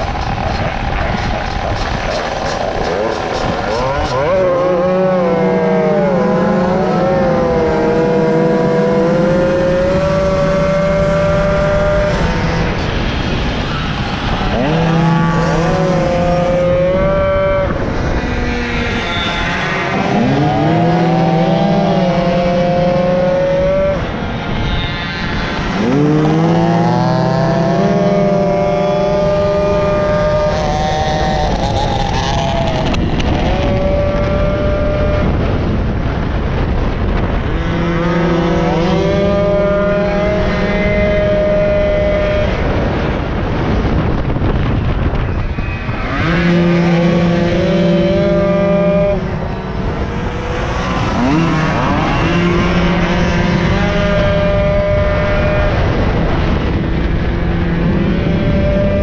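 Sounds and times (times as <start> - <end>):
two-stroke moped engine revving: 0.0 - 45.0, 45.8 - 59.0
wind rushing over microphone: 0.0 - 59.0.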